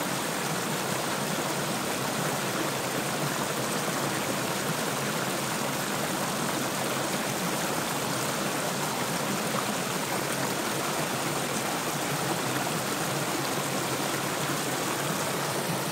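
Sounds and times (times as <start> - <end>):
creek water flowing over rocks: 0.0 - 15.9.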